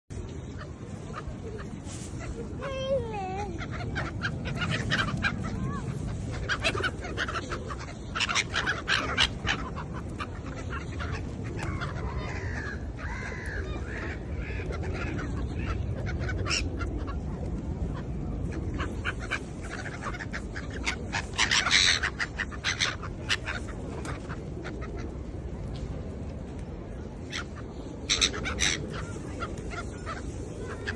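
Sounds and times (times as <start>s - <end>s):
birds calling: 0.1s - 17.4s, 18.0s - 25.3s, 27.2s - 30.9s
low background noise: 0.1s - 30.9s.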